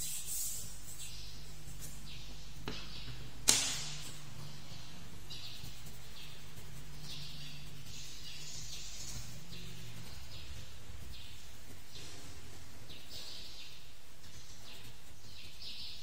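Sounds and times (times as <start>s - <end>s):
pencil scratching on paper: 0.0s - 2.8s, 3.7s - 13.1s, 14.2s - 16.0s.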